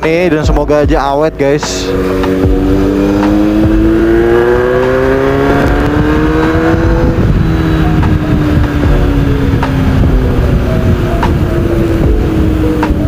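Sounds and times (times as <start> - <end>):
motorcycle engine accelerating: 1.6 - 13.0.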